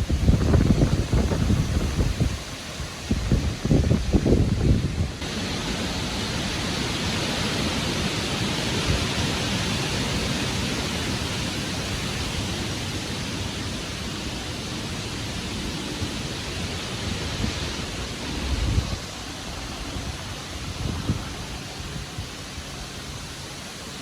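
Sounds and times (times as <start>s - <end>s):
wind rumble on microphone: 0.0s - 23.6s
wind rushing through trees: 0.0s - 24.0s.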